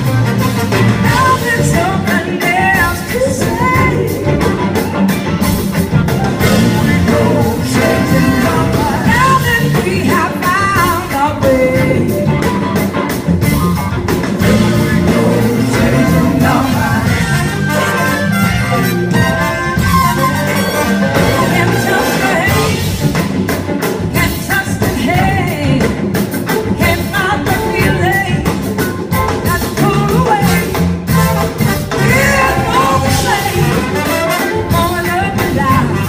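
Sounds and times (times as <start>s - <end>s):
live blues-rock band: 0.0s - 36.0s.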